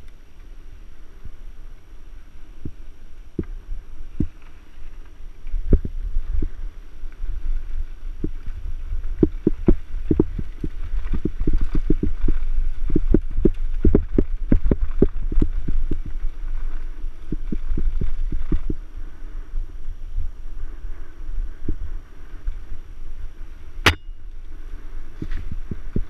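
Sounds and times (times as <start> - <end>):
bike rattling over rough ground: 0.0 - 26.0
wind rumble on microphone: 0.0 - 26.0.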